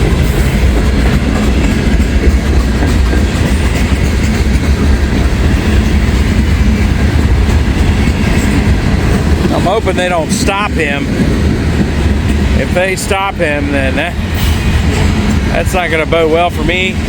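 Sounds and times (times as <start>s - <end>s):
freight train rumbling past: 0.0s - 17.0s
wheels clickety-clack: 0.0s - 17.0s.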